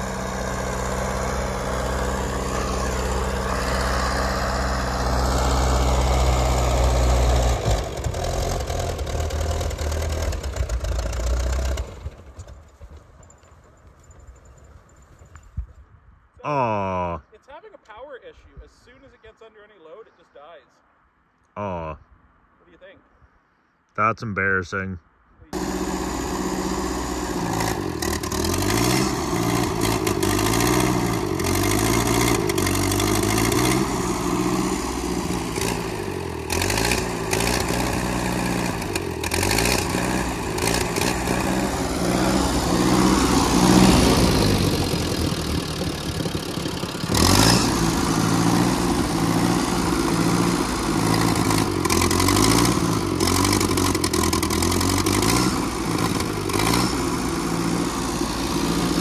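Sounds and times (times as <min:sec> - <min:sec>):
tractor engine running under load: 0:00.0 - 0:15.4, 0:25.6 - 0:59.0.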